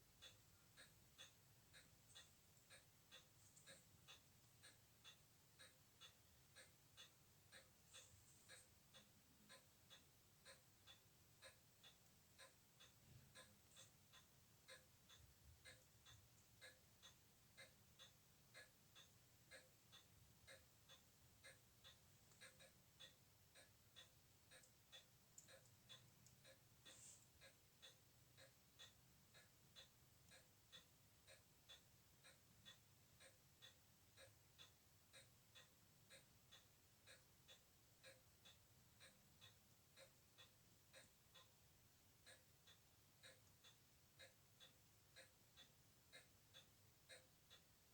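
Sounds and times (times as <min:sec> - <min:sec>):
clockwork ticking: 0:00.1 - 0:47.9.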